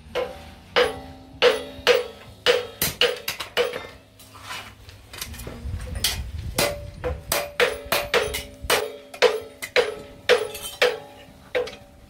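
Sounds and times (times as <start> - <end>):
hammer clanging on steel: 0.0 - 4.1, 6.0 - 12.0.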